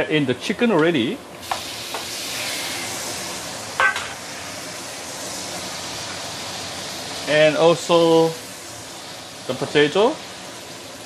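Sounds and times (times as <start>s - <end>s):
chicken sizzling in a wok: 1.4s - 11.0s.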